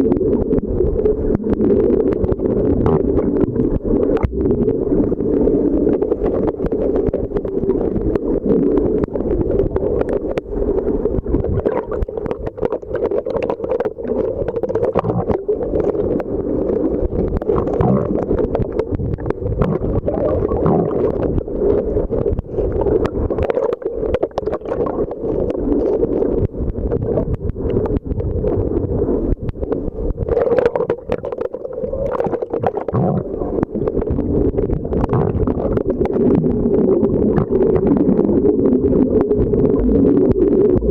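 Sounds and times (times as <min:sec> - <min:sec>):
muffled underwater rush: 0:00.0 - 0:40.9
small underwater clicks and crackles: 0:00.0 - 0:40.9.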